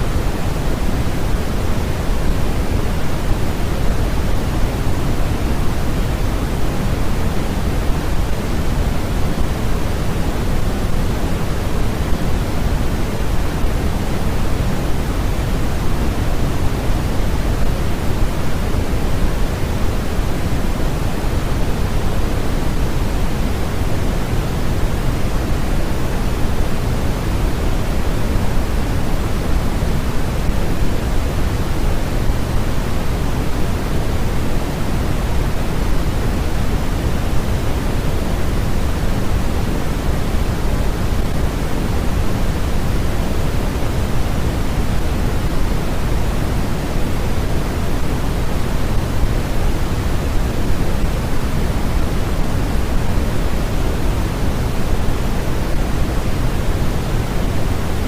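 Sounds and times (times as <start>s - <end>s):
white noise: 0.0s - 58.0s.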